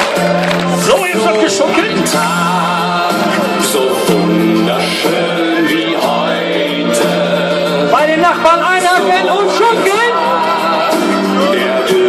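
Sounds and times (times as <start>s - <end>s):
song over loudspeakers: 0.0s - 12.0s.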